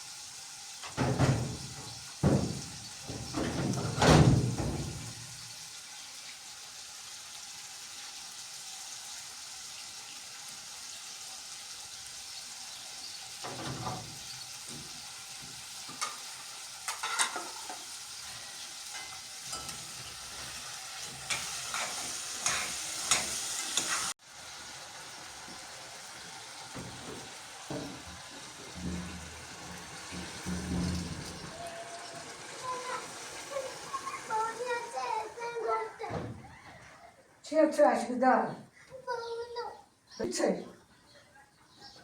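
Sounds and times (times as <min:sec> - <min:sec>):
food sizzling in a pan: 0:00.0 - 0:36.3.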